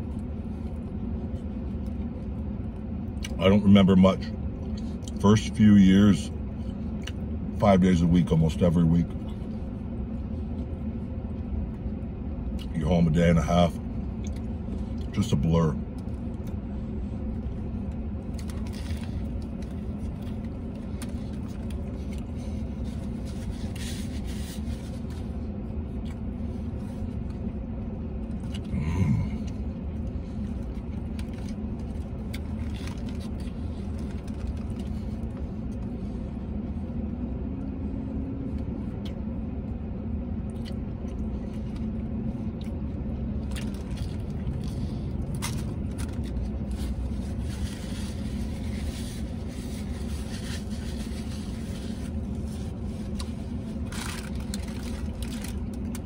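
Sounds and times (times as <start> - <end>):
soft chewing: 0.0 - 3.5, 4.4 - 5.6, 6.2 - 7.6, 8.5 - 12.8, 13.8 - 56.0
low vehicle rumble: 0.0 - 56.0.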